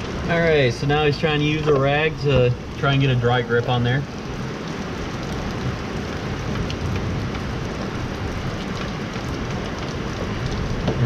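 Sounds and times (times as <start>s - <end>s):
rain on a roof: 0.0s - 11.0s.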